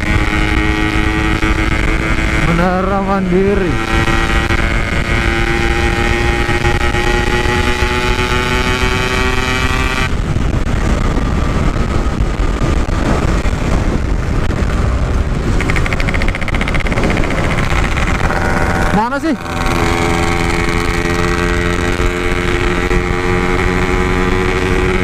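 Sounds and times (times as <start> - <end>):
two-stroke motorcycle engine: 0.0 - 25.0
wind buffeting microphone: 0.0 - 25.0.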